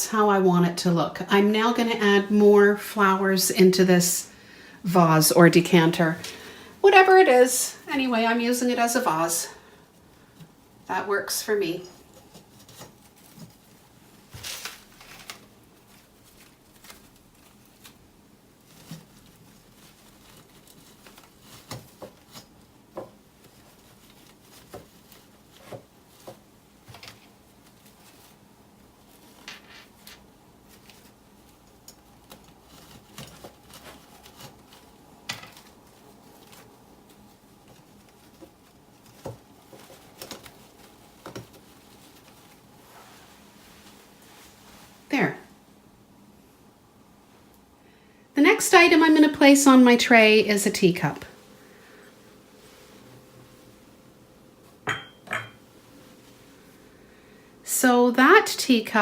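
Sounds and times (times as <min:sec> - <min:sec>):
flower stems rustling: 0:00.0 - 0:47.7, 0:48.4 - 0:59.0.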